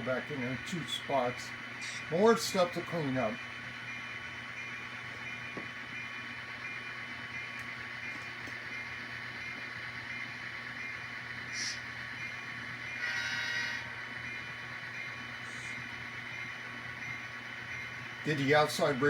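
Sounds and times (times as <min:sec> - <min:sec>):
model locomotive engine sound: 0:00.0 - 0:19.0.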